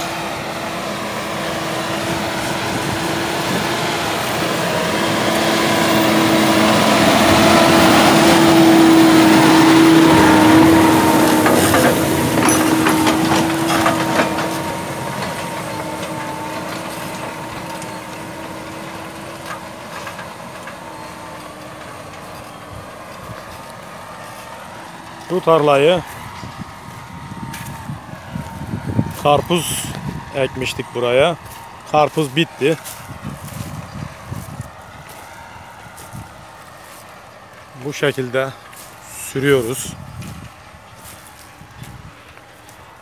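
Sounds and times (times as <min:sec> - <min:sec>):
tractor diesel engine droning: 0:00.0 - 0:43.0.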